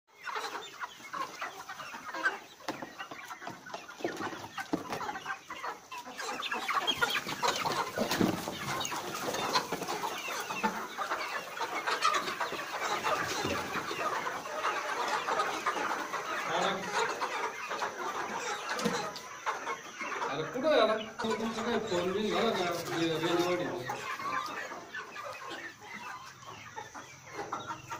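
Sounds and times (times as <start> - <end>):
chickens clucking: 0.1 - 27.9.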